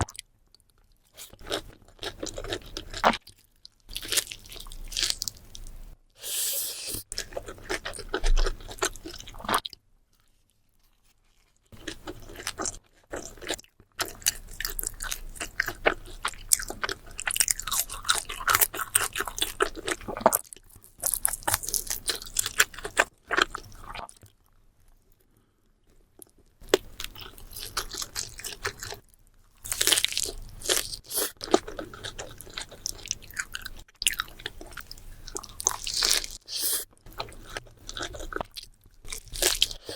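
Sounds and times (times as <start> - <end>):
person chewing with crunching: 0.8 - 24.6, 25.8 - 39.9.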